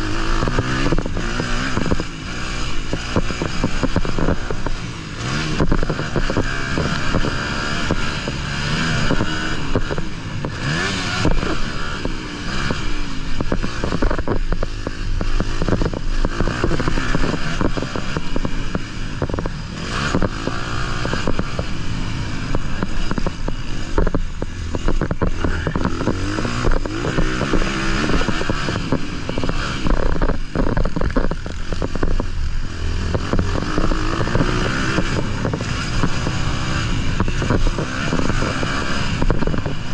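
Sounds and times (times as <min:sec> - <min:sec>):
motocross bike engine revving: 0:00.0 - 0:39.9
wind noise on microphone: 0:00.0 - 0:39.9.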